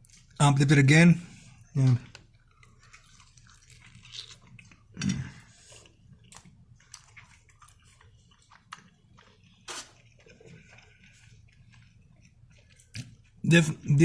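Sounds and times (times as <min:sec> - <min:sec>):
wet chewing with crunchy clicks: 0:00.0 - 0:00.4, 0:01.5 - 0:13.9.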